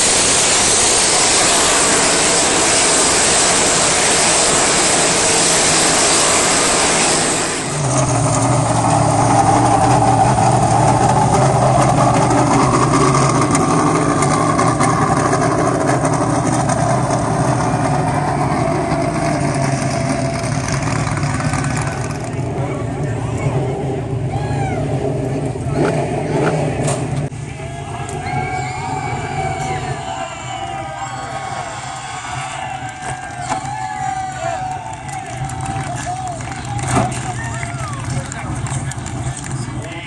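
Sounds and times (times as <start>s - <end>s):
race car engines at speed: 0.0s - 40.0s
race car engine idling close by: 0.1s - 40.0s.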